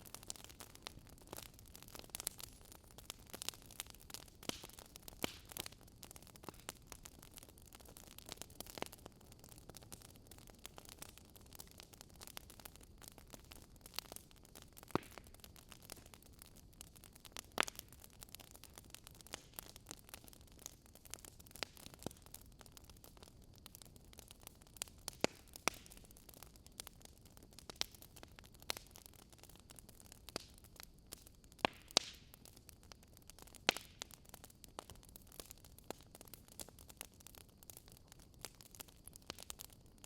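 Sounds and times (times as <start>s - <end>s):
fire popping: 0.0s - 40.0s
soft steady hiss: 0.0s - 40.0s
wood fire crackling: 0.0s - 40.0s.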